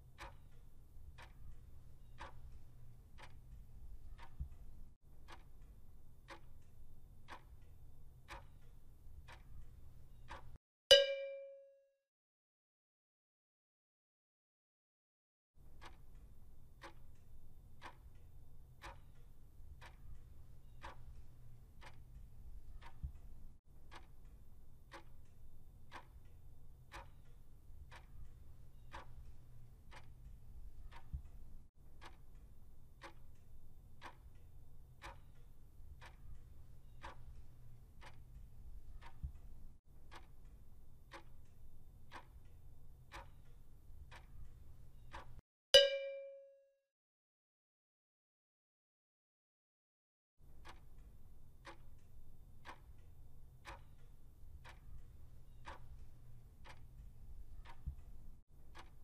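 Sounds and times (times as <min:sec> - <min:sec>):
clock ticking: 0:00.0 - 0:11.7, 0:15.6 - 0:46.4, 0:50.4 - 0:59.0.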